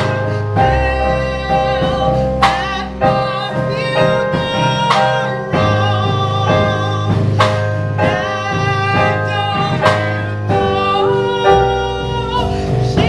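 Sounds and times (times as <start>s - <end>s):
instrumental accompaniment with held chords: 0.0s - 13.0s
person singing: 0.0s - 13.0s.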